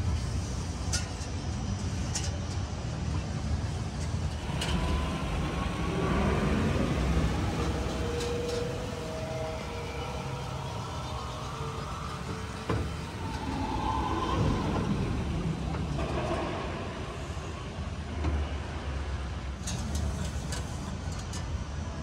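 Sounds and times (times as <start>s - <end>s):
ride car rumbling on track: 0.0s - 22.0s.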